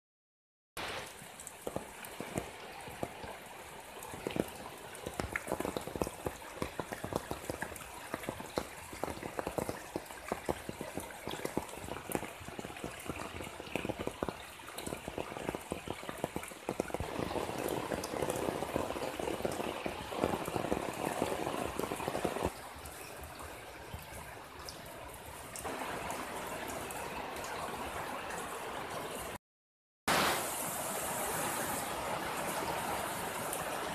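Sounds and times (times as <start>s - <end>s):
heavy rain on flowing water: 0.8s - 29.4s, 30.1s - 33.9s.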